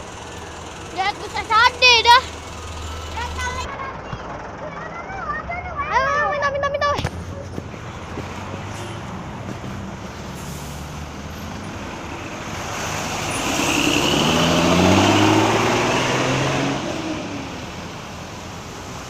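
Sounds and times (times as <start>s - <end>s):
heavy vehicle passing on highway: 0.0s - 19.0s.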